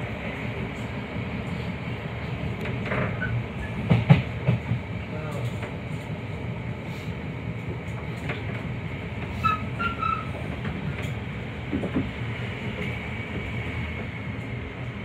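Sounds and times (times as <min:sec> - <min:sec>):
train interior low rumble: 0:00.0 - 0:15.0
rail clicks: 0:00.1 - 0:06.3, 0:07.0 - 0:15.0.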